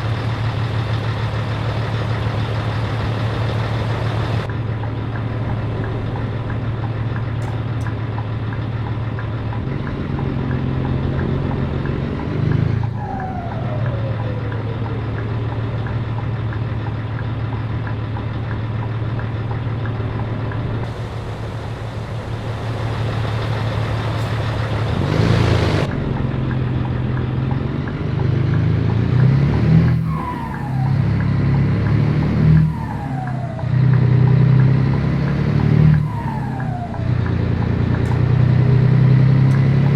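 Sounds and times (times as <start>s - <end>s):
diesel truck engine driving: 0.0s - 39.9s.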